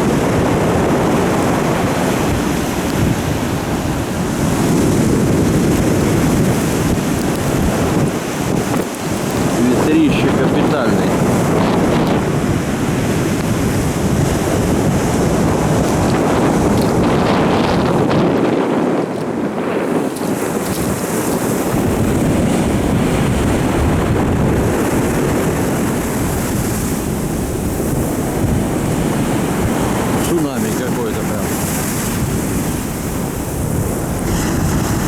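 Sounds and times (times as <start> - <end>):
heavy surf breaking: 0.0 - 35.0
wind buffeting microphone: 0.0 - 35.0.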